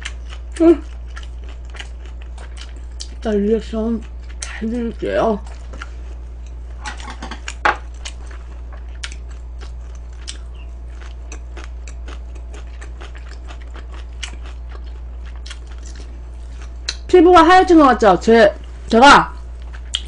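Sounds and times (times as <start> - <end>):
chewing with crackling clicks: 0.0 - 4.8, 5.4 - 17.1, 19.6 - 20.0
steady low hum: 0.0 - 20.0.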